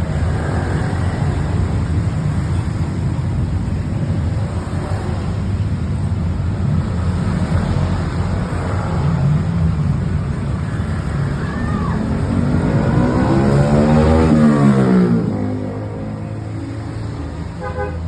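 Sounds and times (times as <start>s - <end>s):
traffic engines passing: 0.0s - 18.0s.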